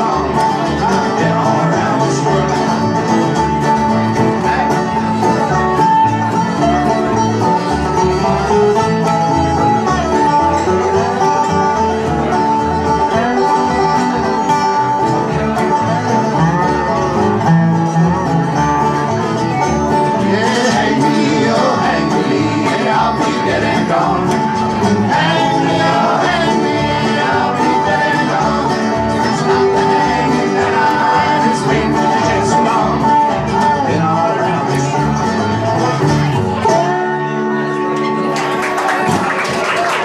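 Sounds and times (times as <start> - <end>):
voices singing: 0.0 - 16.9, 19.2 - 37.0
acoustic guitar: 0.0 - 40.0
banjo: 0.0 - 40.0
upright bass: 0.0 - 40.0.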